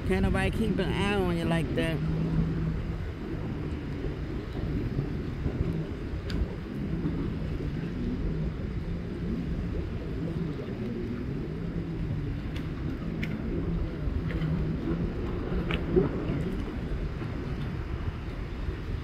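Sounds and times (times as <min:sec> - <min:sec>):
jet ski engines droning: 0:00.0 - 0:19.0.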